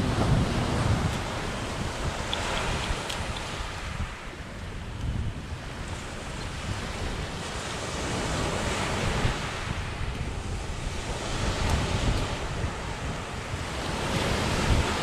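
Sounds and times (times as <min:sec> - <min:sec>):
surf breaking on beach: 0:00.0 - 0:04.4, 0:05.2 - 0:15.0
wind buffeting microphone: 0:00.0 - 0:15.0.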